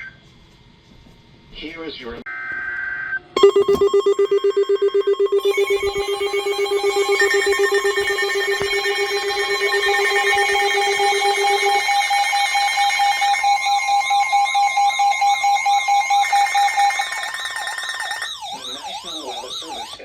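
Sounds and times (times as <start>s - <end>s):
pulsing electronic alert tone: 3.4s - 20.0s.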